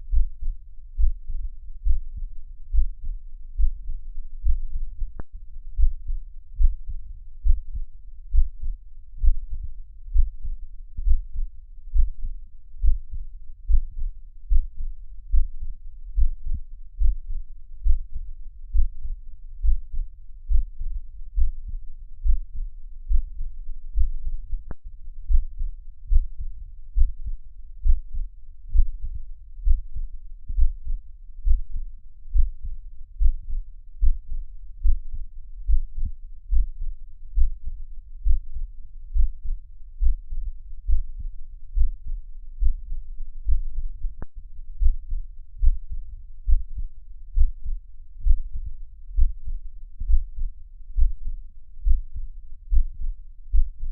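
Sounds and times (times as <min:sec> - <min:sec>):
heart beating low thumps: 0:00.0 - 0:53.9.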